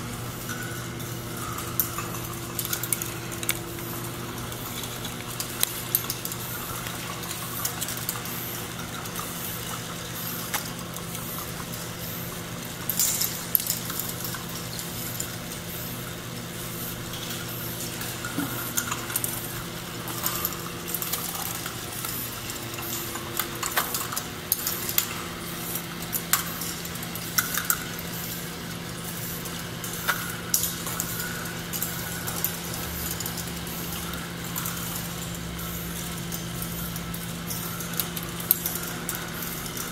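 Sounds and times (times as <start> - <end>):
balls rattling along plastic tracks: 0.0 - 39.9
steady motor hum: 0.0 - 39.9.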